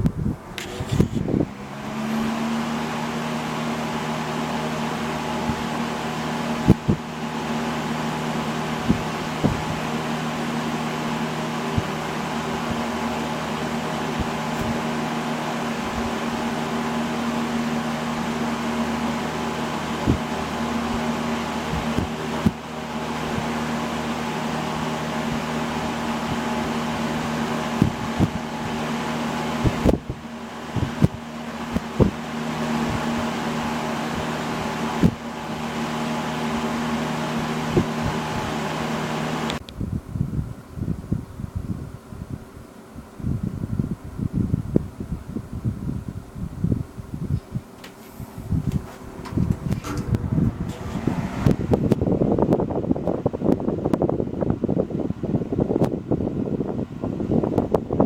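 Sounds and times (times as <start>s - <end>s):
box fan running: 0.0s - 58.0s.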